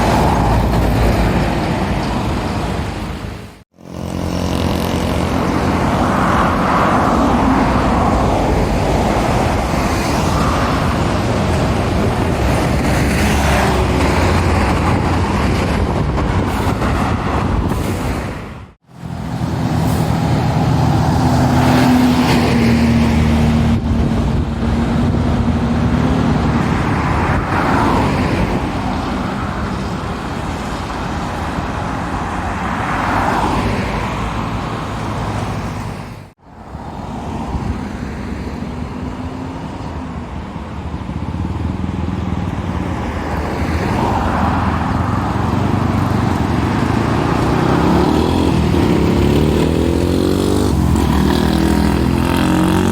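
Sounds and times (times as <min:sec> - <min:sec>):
heavy lorries passing: 0:00.0 - 0:52.9.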